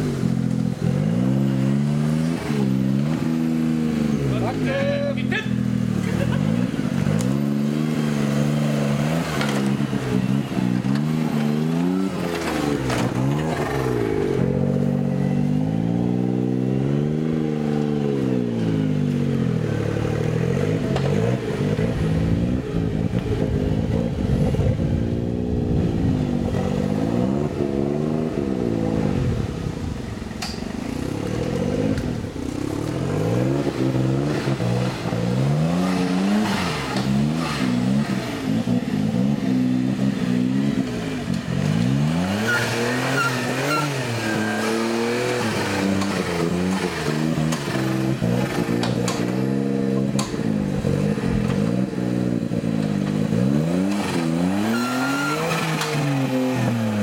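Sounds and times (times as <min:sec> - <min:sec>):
off-road vehicle engine revving: 0:00.0 - 0:57.0.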